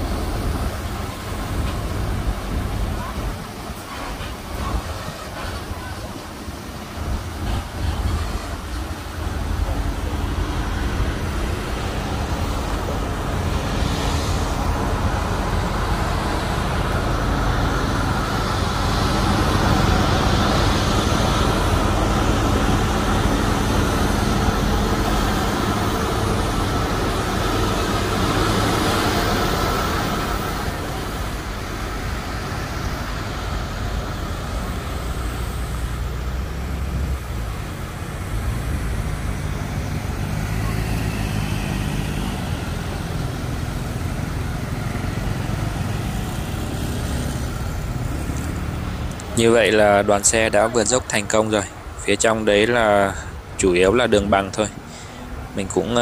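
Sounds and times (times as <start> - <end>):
road noise: 0.0 - 56.0
truck engine drone: 0.0 - 56.0.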